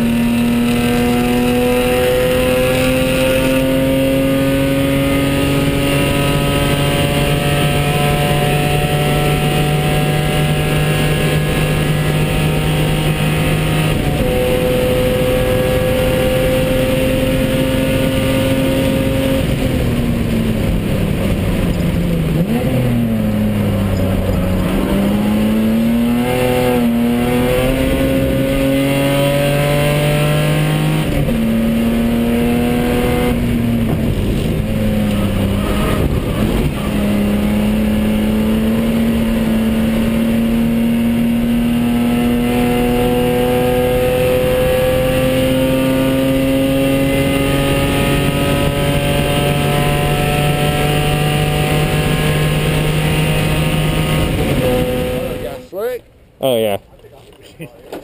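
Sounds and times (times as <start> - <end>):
race car engine revving: 0.0 - 55.7.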